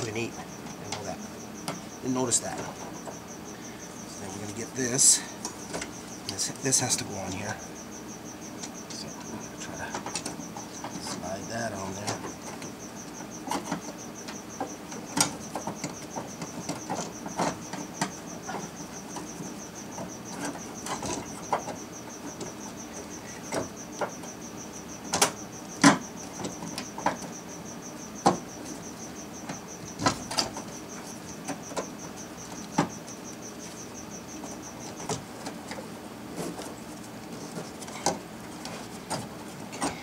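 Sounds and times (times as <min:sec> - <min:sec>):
high pulsing insect-like trill: 0:00.0 - 0:40.0.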